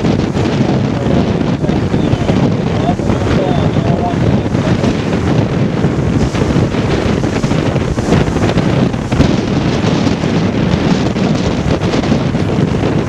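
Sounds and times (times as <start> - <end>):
strong wind buffeting microphone: 0.0 - 13.0
water rushing past hull: 0.0 - 13.0.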